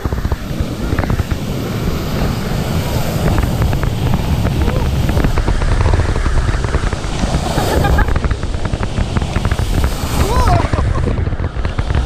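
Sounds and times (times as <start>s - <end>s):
water rushing and splashing: 0.0s - 12.0s
wind buffeting camera: 0.0s - 12.0s.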